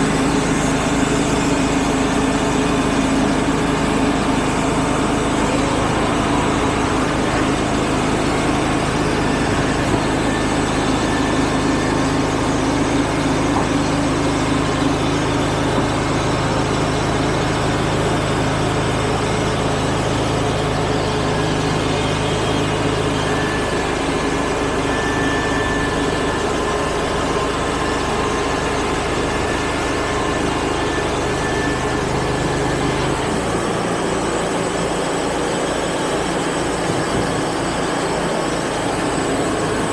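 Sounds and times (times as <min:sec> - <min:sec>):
band sawmill engine hum: 0:00.0 - 0:39.9.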